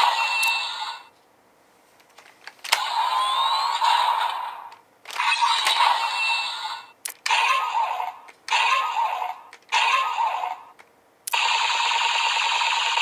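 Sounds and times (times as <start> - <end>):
toy blaster electronic shots: 0.0 - 1.0, 2.7 - 10.7, 11.3 - 13.0.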